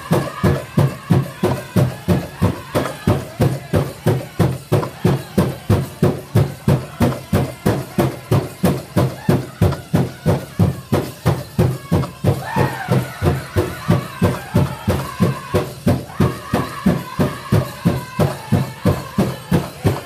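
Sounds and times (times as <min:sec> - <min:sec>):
drum beating fast: 0:00.0 - 0:20.0
group singing: 0:00.0 - 0:20.0.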